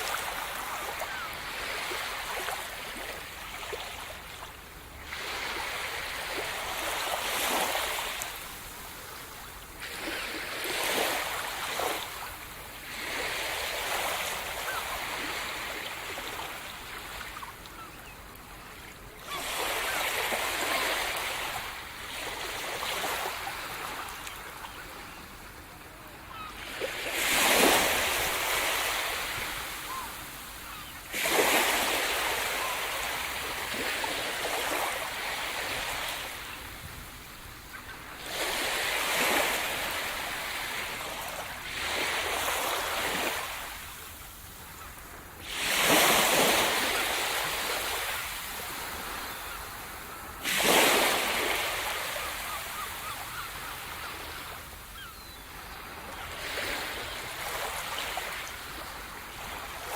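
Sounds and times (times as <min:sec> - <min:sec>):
waves rushing and breaking: 0:00.0 - 0:18.0, 0:18.8 - 0:59.9.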